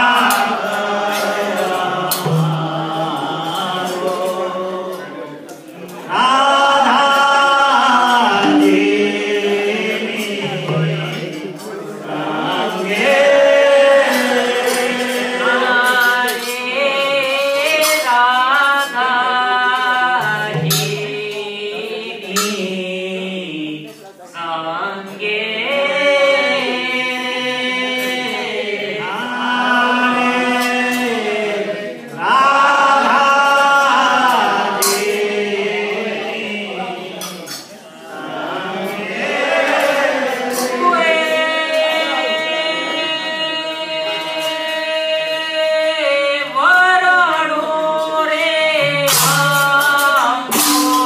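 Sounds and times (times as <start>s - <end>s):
group singing devotional song: 0.0s - 51.0s.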